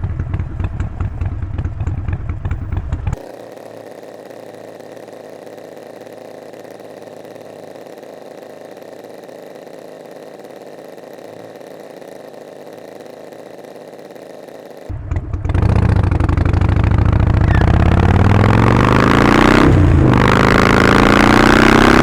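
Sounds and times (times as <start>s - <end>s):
motorcycle engine pulsing: 0.0s - 22.0s.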